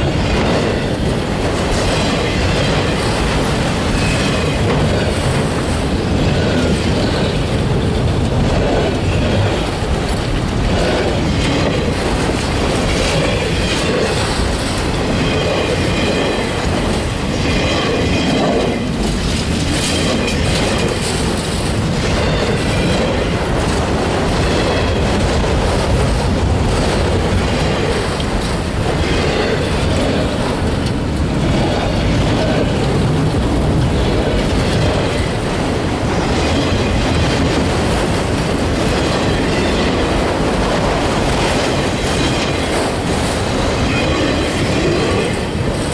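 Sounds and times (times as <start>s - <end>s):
train wheels clickety-clack on rails: 0.0s - 45.9s.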